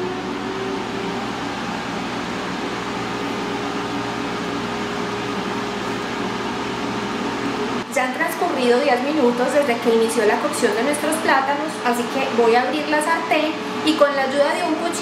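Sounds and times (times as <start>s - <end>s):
air fryer fan whirring: 0.0s - 15.0s
faint constant hum: 0.0s - 15.0s.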